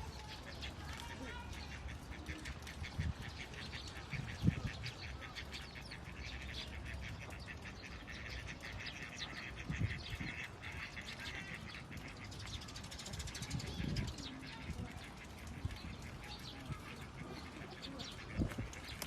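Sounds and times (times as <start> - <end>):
birds chirping rapidly: 0.0 - 19.0.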